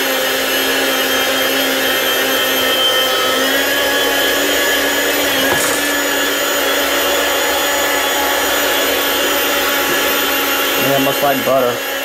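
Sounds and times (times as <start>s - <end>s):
electric food slicer motor hum: 0.0s - 12.0s.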